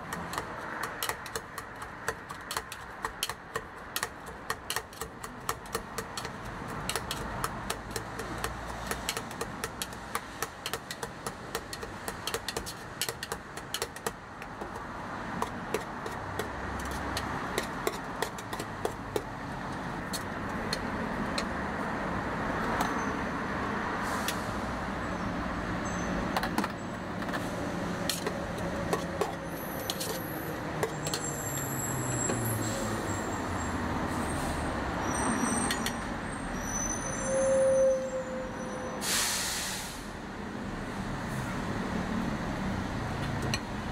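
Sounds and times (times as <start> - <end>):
street traffic: 0.0 - 43.9.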